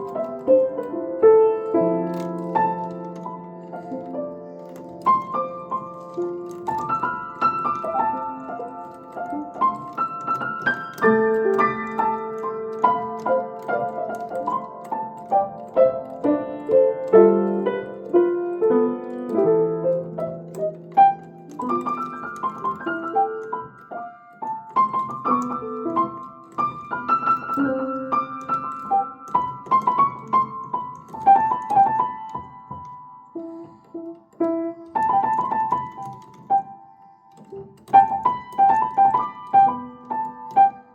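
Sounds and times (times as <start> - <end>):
grand piano playing: 0.0 - 40.9.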